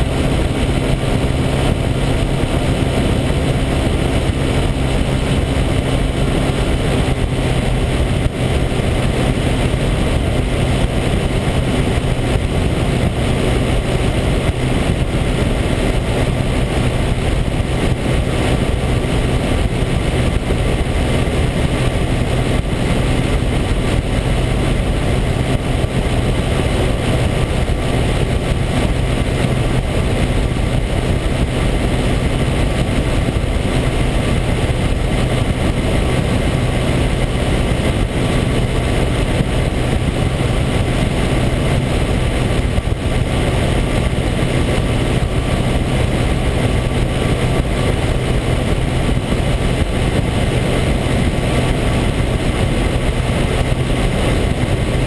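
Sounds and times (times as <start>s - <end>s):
engine and propeller drone: 0.0s - 55.0s
wind rushing over microphone: 0.0s - 55.0s.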